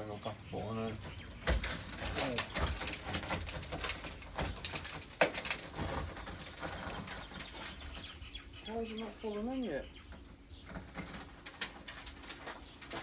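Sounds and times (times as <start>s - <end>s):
broken glass crackling and crunching: 0.0s - 8.3s, 10.6s - 13.0s.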